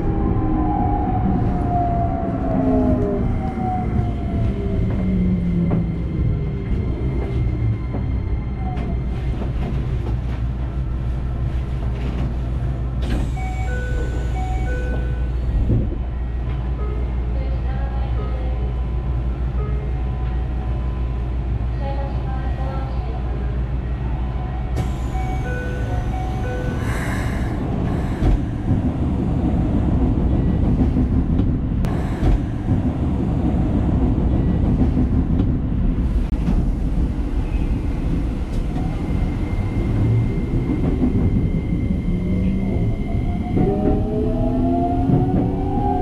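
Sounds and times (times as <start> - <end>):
train wheels rumbling on rails: 1.1 - 16.7, 24.7 - 46.0.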